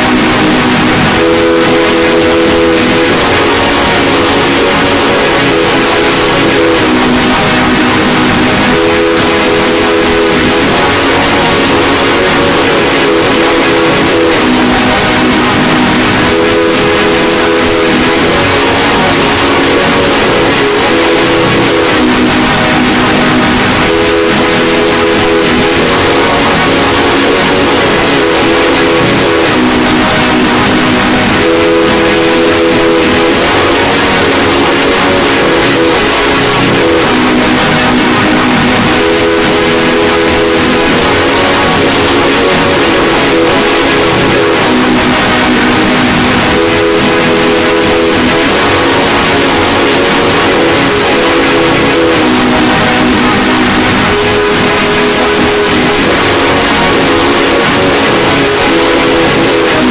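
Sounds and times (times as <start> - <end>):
harsh distorted noise wash: 0.0 - 59.9.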